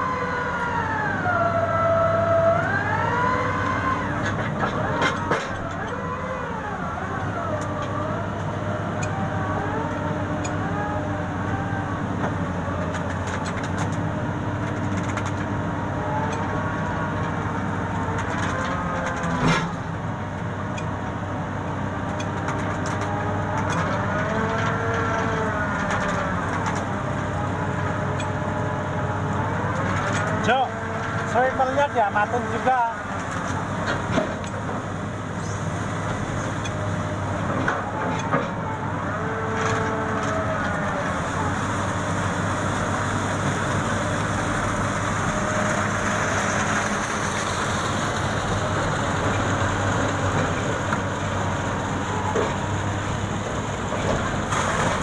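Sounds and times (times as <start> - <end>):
engine hum: 0.0 - 55.0.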